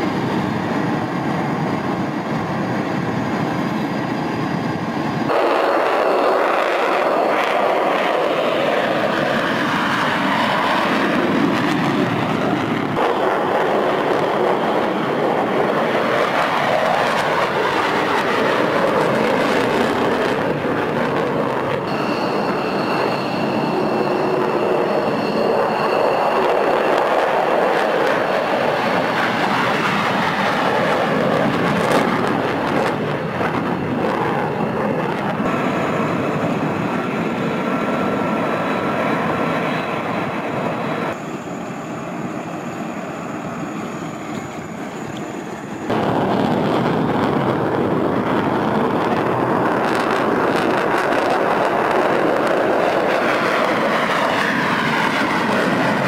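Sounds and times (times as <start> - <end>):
high engine whine: 0.0 - 56.0
jet engines roaring: 0.0 - 56.0.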